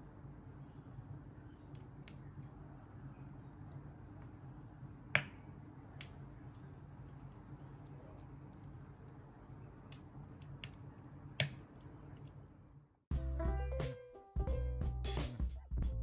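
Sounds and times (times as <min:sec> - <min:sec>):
fire popping: 0:00.0 - 0:12.9
wood fire crackling: 0:00.0 - 0:13.0.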